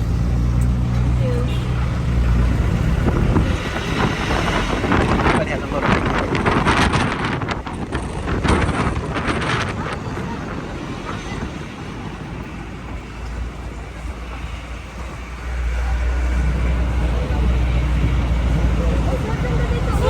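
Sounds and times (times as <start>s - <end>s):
engine and road rumble: 0.0s - 20.0s
wind buffeting microphone: 0.0s - 20.0s.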